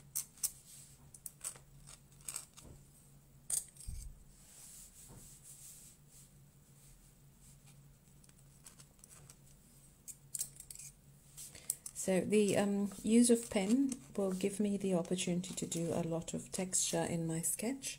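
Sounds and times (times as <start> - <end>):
faint low hum: 0.0 - 17.9.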